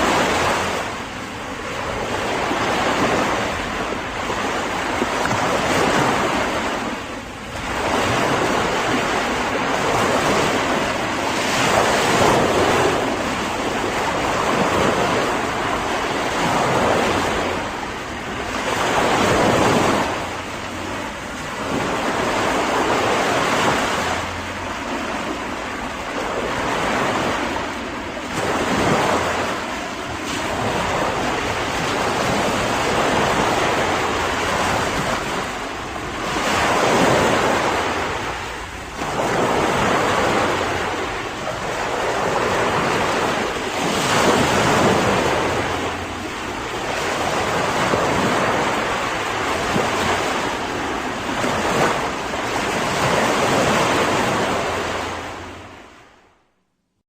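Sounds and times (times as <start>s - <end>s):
sea waves breaking: 0.0s - 56.5s.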